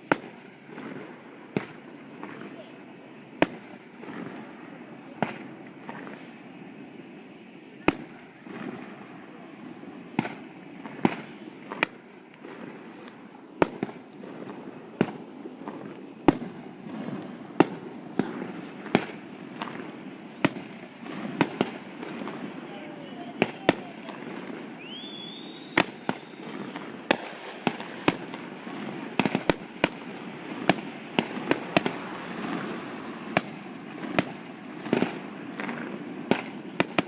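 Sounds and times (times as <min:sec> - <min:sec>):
fireworks bangs: 0:00.0 - 0:37.0
low background noise: 0:00.0 - 0:37.0.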